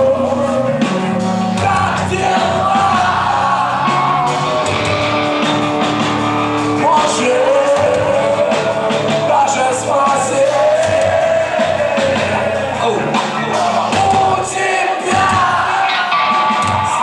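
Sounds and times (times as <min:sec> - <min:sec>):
bass guitar: 0:00.0 - 0:17.0
distorted electric guitars: 0:00.0 - 0:17.0
drums: 0:00.0 - 0:17.0.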